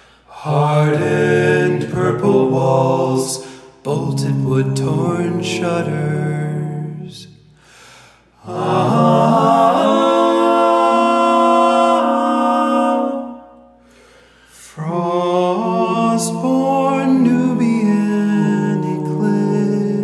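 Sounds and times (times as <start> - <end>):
male voices singing in harmony: 0.3 - 7.3, 8.3 - 13.7, 14.6 - 20.0.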